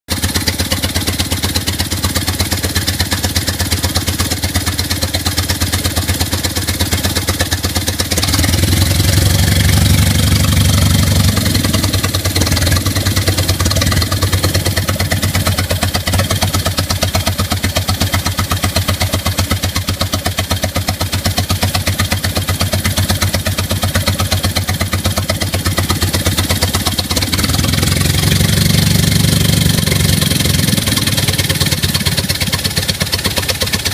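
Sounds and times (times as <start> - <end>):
air compressor chugging: 0.1 - 33.9.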